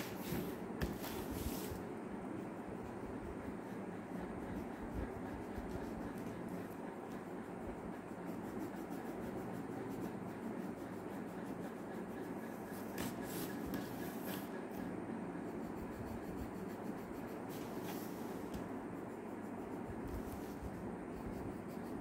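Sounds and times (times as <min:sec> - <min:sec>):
coloured pencil rubbing on paper: 0:00.0 - 0:22.0.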